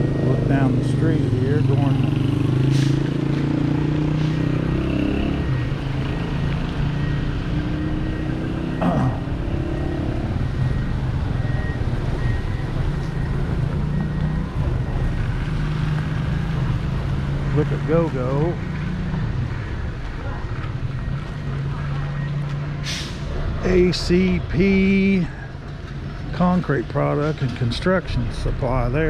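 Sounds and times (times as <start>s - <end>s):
hum of motorbikes and cars: 0.0s - 29.0s.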